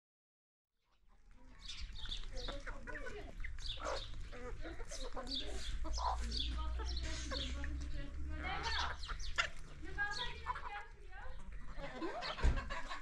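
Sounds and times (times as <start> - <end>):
hens clucking: 1.5 - 13.0.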